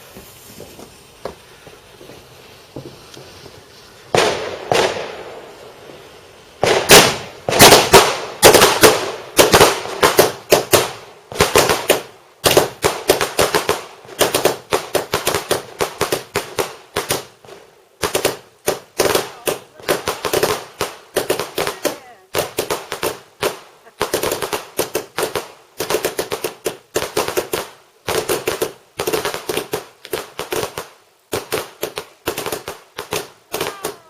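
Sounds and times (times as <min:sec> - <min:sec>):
fireworks cracks and bangs: 0:00.0 - 0:34.0.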